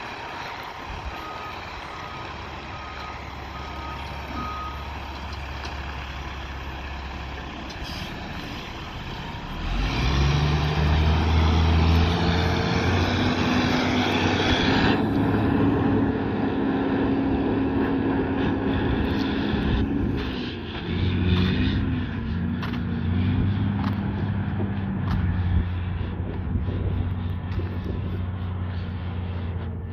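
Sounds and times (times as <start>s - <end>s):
diesel engine revving under load: 0.0s - 29.9s.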